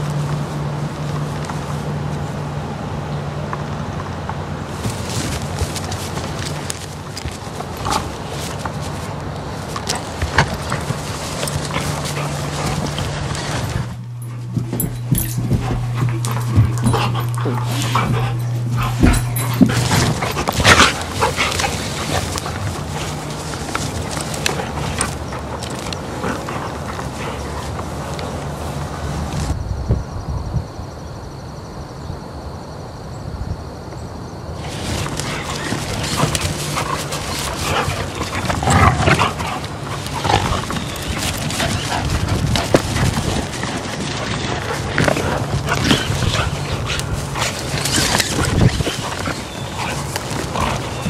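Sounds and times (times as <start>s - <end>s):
dogs scuffling: 0.0s - 29.6s, 34.6s - 51.0s
dogs vocalizing: 4.8s - 29.4s, 34.6s - 51.0s.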